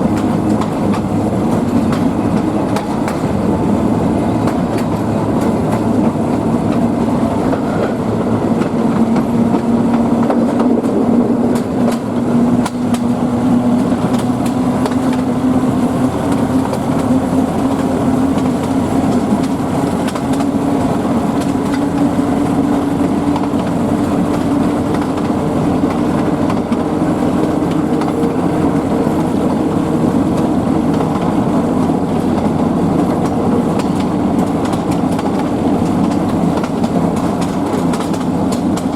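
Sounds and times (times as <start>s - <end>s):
locomotive hum: 0.0s - 38.9s
train wheels clattering on rails: 0.0s - 38.9s.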